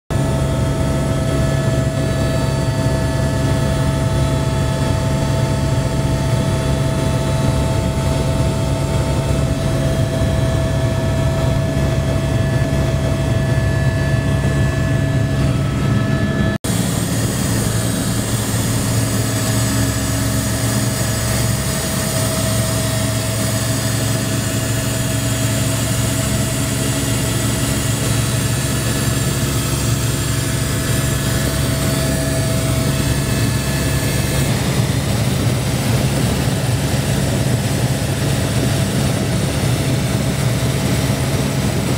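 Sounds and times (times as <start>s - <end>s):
helicopter rotor and engine drone: 0.1s - 41.9s.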